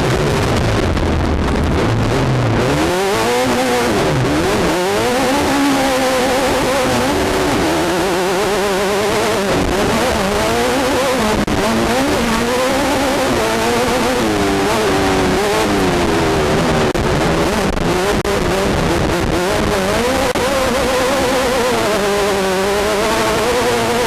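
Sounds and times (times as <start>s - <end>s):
race car engine revving: 0.0s - 24.0s
road and wind noise: 0.0s - 24.0s.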